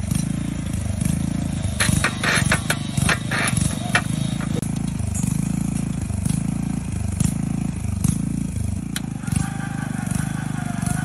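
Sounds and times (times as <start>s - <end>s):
electric motor humming: 0.0s - 11.0s.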